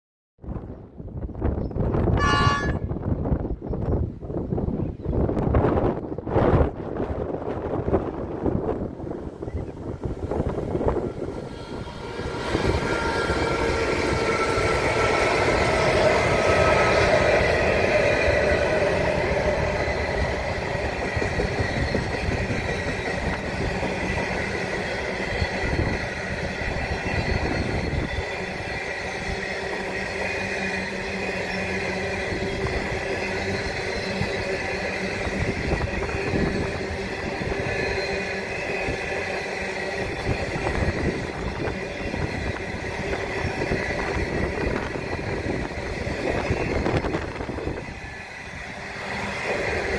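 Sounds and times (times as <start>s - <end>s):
diesel locomotives passing: 0.5s - 49.9s
train wheels on rails: 2.6s - 49.9s.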